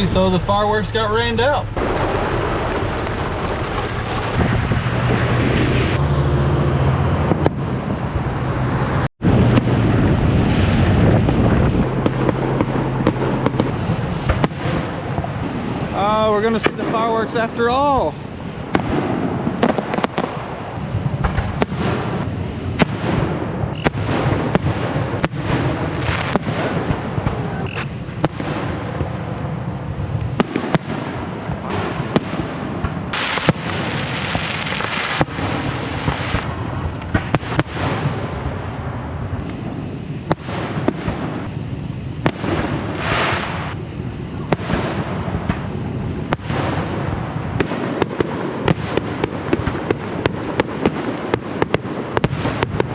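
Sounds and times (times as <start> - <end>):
fireworks crackling: 0.0 - 6.0, 8.9 - 52.9
fireworks bangs and pops: 1.6 - 6.0, 7.0 - 7.9, 9.0 - 52.9.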